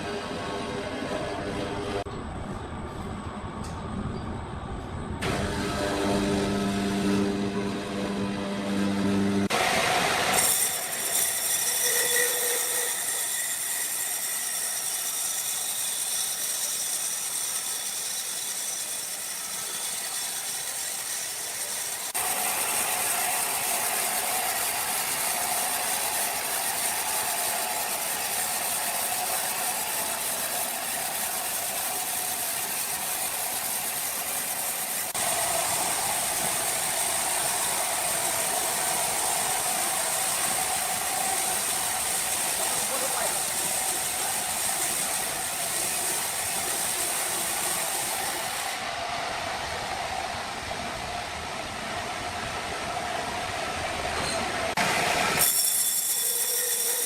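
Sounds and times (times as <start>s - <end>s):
sawmill machinery running: 0.0s - 3.8s, 4.8s - 57.0s.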